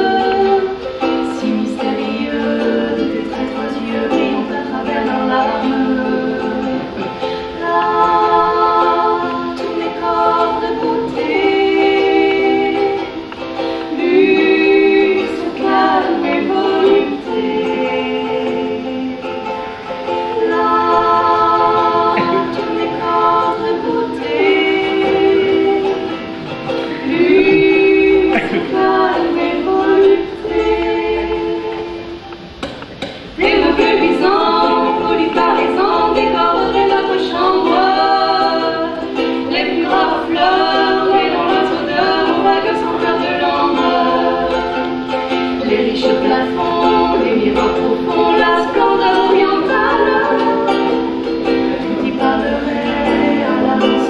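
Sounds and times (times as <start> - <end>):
ukulele: 0.0 - 54.0
women singing together: 0.0 - 54.0.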